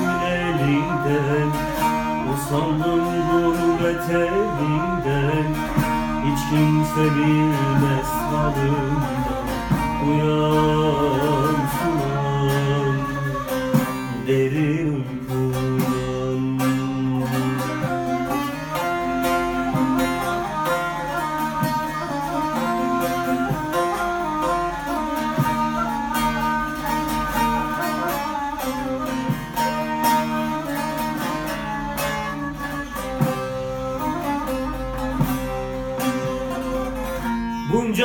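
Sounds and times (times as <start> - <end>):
plucked long-necked lute: 0.0 - 38.0
wooden flute melody: 0.0 - 38.0.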